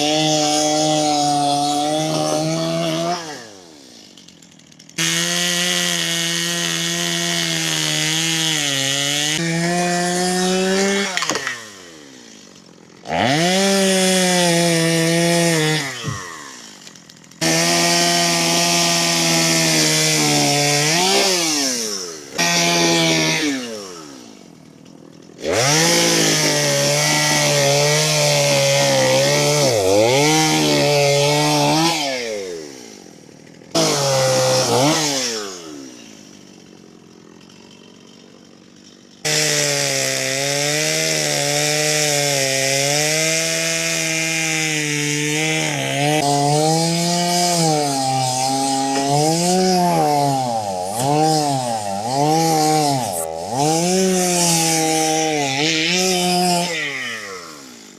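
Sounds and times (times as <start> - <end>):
electric power tool whining: 0.0 - 7.6, 9.3 - 41.6, 45.4 - 57.9.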